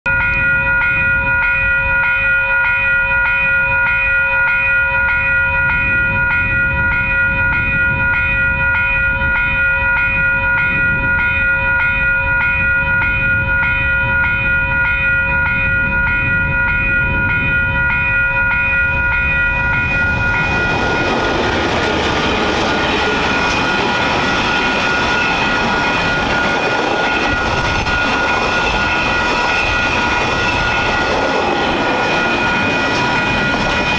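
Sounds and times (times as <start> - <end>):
freight train passing: 0.1 - 33.9
level crossing bells ringing: 0.1 - 33.9.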